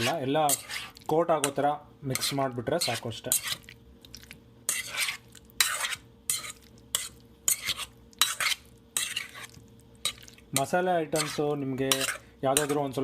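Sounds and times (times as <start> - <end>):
spoon scraping a bowl: 0.0 - 3.7, 4.7 - 13.0.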